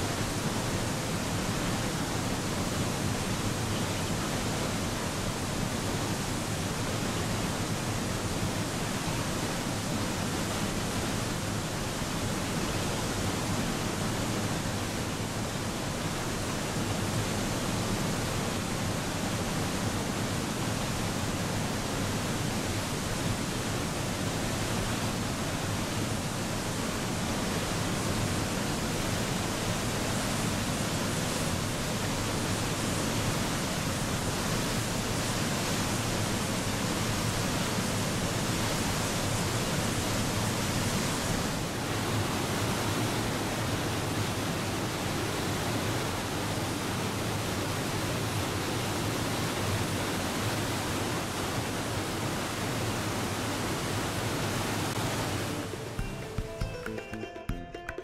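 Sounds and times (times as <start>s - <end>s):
large waterfall: 0.0s - 57.4s.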